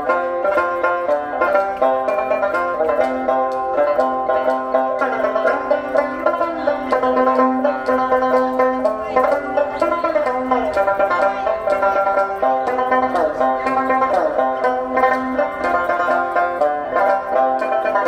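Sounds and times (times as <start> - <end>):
plucked string folk music: 0.0 - 18.0.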